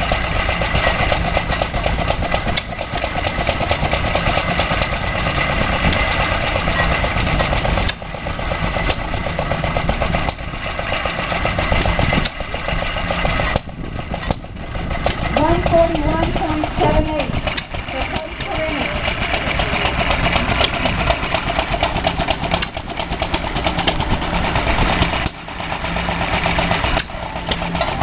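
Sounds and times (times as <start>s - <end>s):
small engine chugging: 0.0s - 28.0s.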